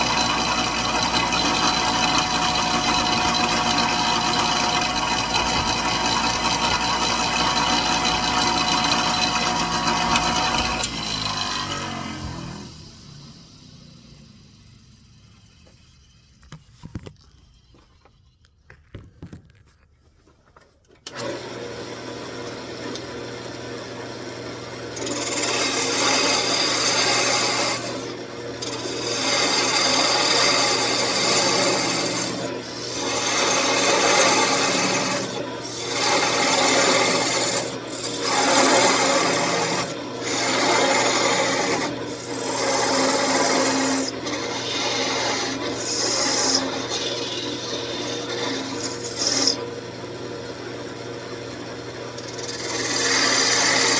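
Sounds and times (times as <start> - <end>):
wood lathe motor humming: 0.0 - 18.0, 21.1 - 53.9
tool cutting spinning wood: 0.0 - 19.4, 21.0 - 53.9.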